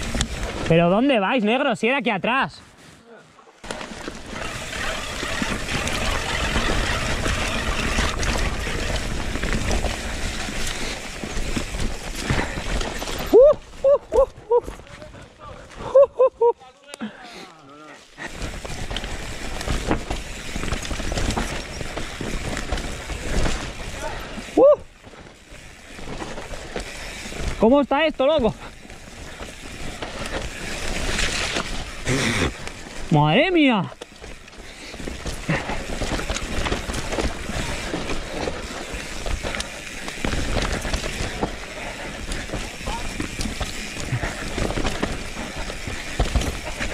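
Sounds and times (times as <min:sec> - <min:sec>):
bike rattling and clicking: 0:00.0 - 0:01.8, 0:03.6 - 0:46.9
bike tyre noise: 0:00.0 - 0:01.9, 0:02.5 - 0:46.9.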